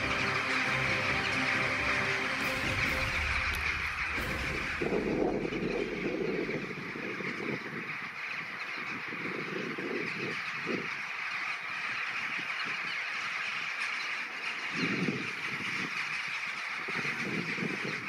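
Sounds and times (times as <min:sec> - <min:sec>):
flock of birds calling: 0:00.0 - 0:18.0.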